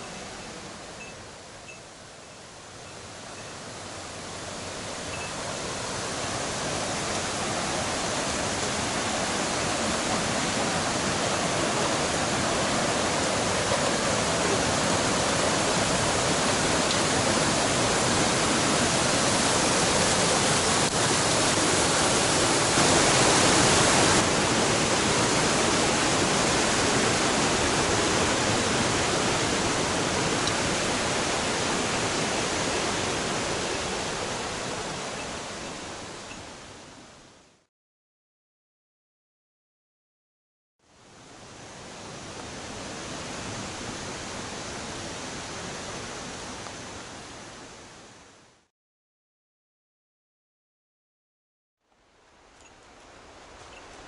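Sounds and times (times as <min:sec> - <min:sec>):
whitewater stream over boulders: 0:00.0 - 0:37.7, 0:40.9 - 0:48.7, 0:52.0 - 0:54.0.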